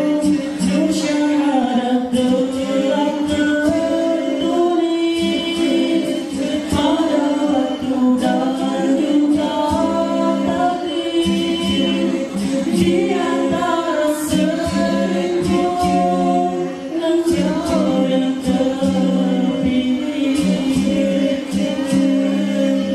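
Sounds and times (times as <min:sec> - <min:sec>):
men singing a cappella in harmony: 0:00.0 - 0:22.9.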